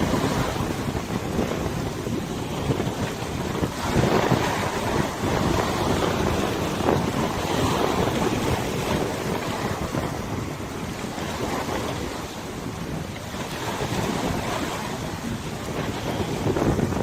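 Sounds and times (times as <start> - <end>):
river water lapping: 0.0 - 17.0
wind buffeting microphone: 0.0 - 17.0.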